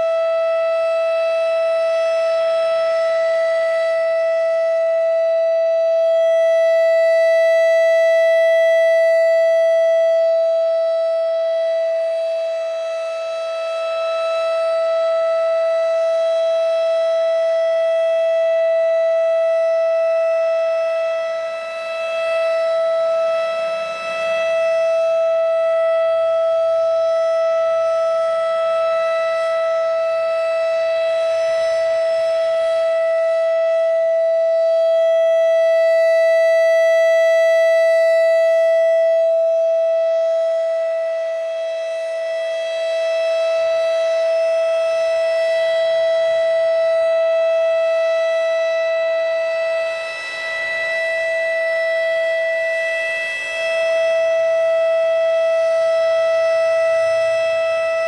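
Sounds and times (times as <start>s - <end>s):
warning siren steady tone: 0.0s - 58.0s.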